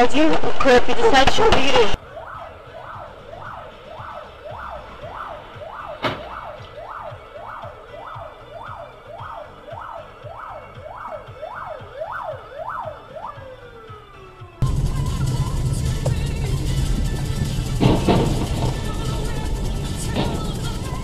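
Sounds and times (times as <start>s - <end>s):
emergency siren yelping: 1.0s - 21.0s.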